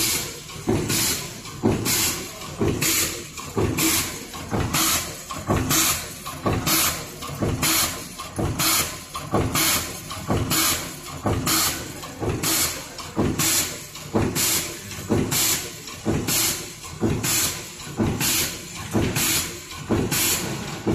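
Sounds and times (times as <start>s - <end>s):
machine clunks with hiss: 0.0s - 20.9s.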